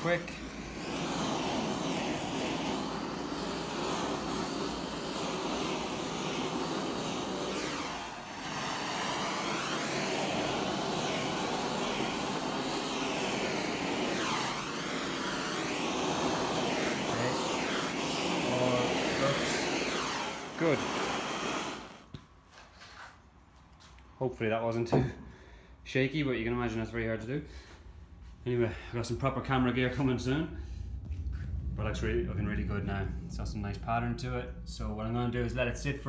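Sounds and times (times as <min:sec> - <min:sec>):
gas torch flame rushing: 0:00.0 - 0:23.2, 0:27.5 - 0:36.0.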